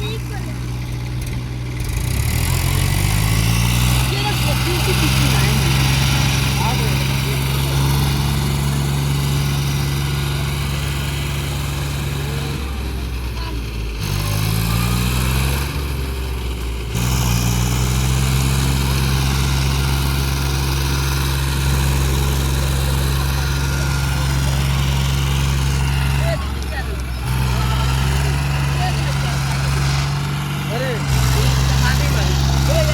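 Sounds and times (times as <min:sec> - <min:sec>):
heavy diesel engine revving: 0:00.0 - 0:32.9.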